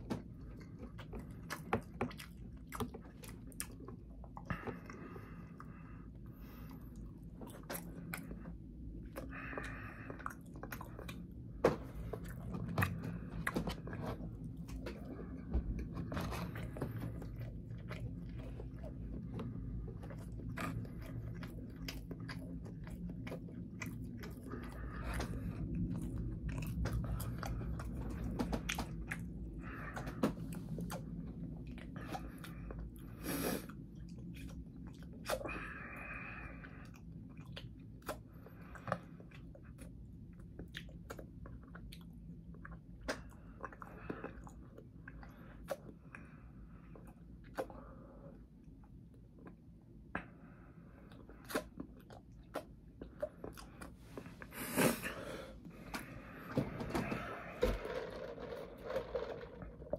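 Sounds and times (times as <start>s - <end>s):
person chewing with crunching: 0.0s - 59.9s.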